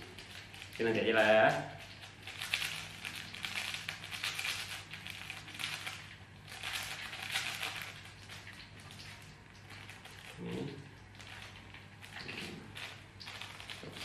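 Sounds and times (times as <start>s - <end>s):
foil sachet crinkling: 0.0s - 14.0s.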